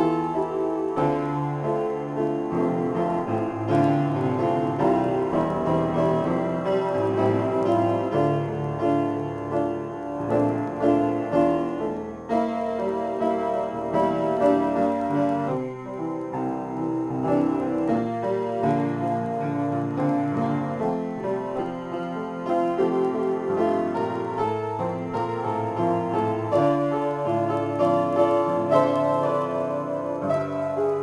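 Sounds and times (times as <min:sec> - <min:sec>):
piano improvisation: 0:00.0 - 0:31.0.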